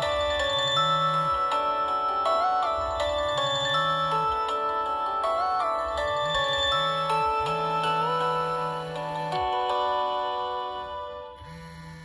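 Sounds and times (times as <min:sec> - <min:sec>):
mobile phone ringtone melody: 0:00.0 - 0:12.0.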